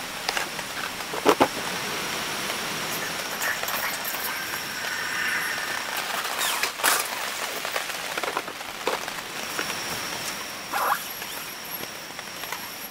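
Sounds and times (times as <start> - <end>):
steady rain hiss: 0.0 - 12.9.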